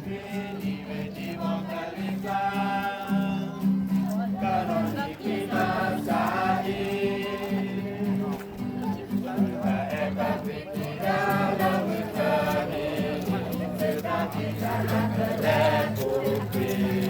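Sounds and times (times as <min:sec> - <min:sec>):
group of voices singing: 0:00.0 - 0:17.0.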